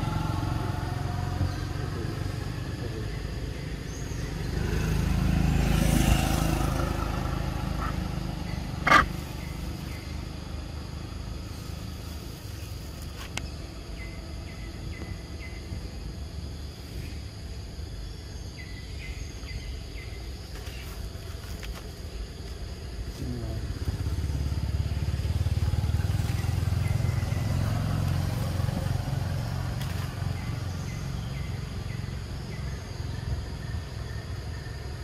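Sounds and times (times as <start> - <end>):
passing vehicle engine rumble: 0.0 - 35.0.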